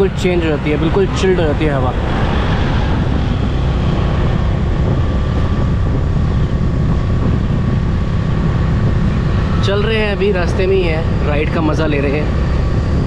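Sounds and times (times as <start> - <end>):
motorcycle engine drone: 0.0 - 13.0
wind buffeting microphone: 0.0 - 13.0.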